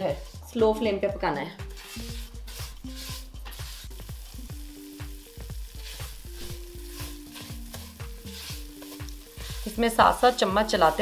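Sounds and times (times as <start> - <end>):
spatula scraping a pan: 0.0 - 0.8, 1.6 - 11.0
soft sizzle: 0.0 - 11.0.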